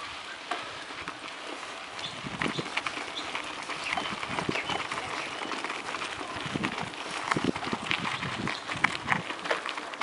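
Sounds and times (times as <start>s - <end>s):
bike rattling: 0.0s - 10.0s
tyres crunching on gravel: 0.0s - 10.0s.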